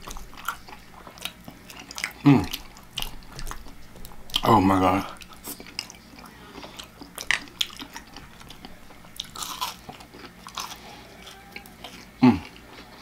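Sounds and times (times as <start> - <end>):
close-up chewing: 0.0 - 13.0.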